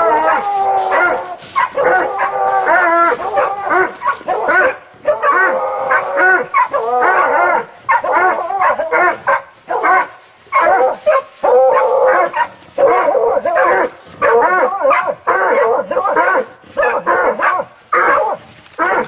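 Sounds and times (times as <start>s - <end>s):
hounds baying: 0.0s - 19.0s.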